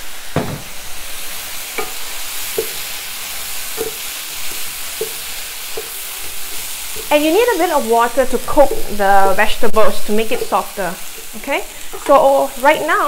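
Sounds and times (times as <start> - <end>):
vegetables sizzling in a frying pan: 0.0 - 13.0
wooden spatula scraping a pan: 1.7 - 13.0.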